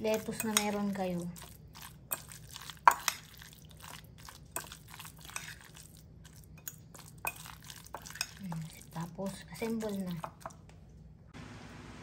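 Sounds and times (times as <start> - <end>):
fork mashing wet salad: 0.0 - 10.7.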